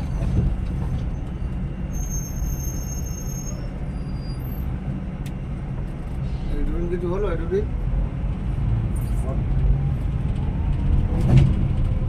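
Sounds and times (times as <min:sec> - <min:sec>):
engine and road noise drone: 0:00.0 - 0:12.0.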